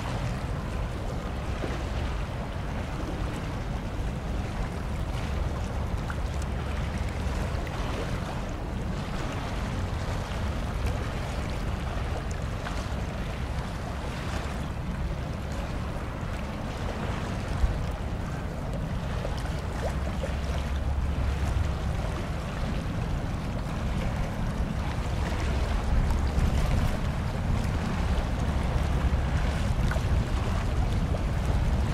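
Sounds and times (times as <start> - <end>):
waves washing: 0.0 - 31.9
wind buffeting microphone: 0.0 - 31.9.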